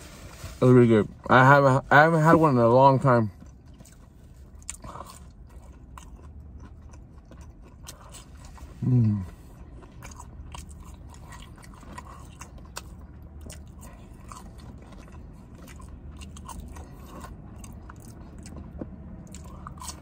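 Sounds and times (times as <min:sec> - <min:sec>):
low steady hum: 0:00.0 - 0:20.0
person chewing with wet smacking: 0:02.9 - 0:20.0.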